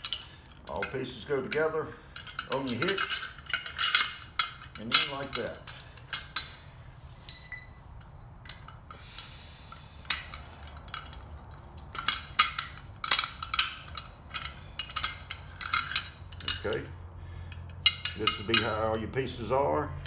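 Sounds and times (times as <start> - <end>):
metal parts clinking: 0.0 - 19.6.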